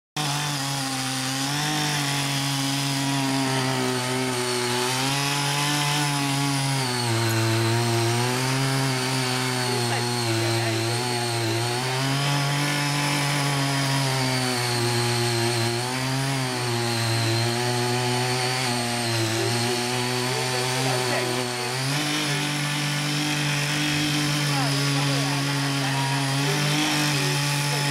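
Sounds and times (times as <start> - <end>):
tiller engine running hard: 0.2 - 27.9
tilling blades churning soil: 0.2 - 27.9.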